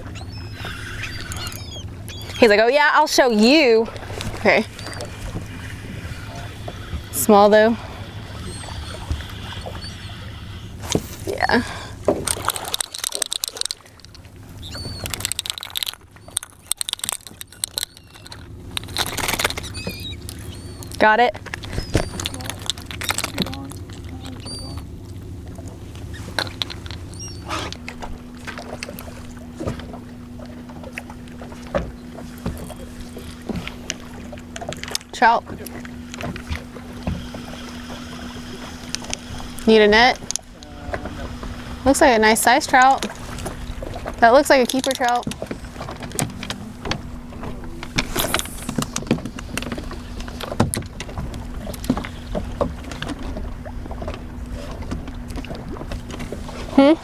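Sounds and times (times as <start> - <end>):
boat motor humming: 0.0 - 57.0
water noise: 0.0 - 57.0.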